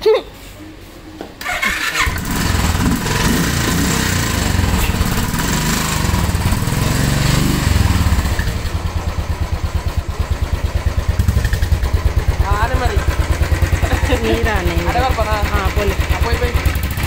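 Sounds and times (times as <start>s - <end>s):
motorcycle engine idling: 1.4s - 17.0s.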